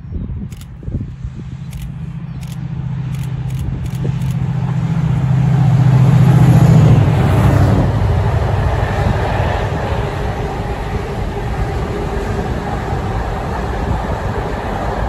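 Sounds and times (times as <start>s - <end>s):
wagons rumbling on rails: 0.0s - 15.0s
locomotives droning past: 0.5s - 15.0s.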